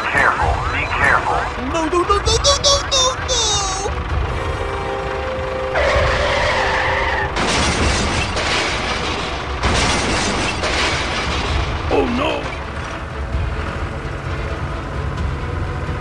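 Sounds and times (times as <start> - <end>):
tractor engine rumble: 0.0 - 16.0.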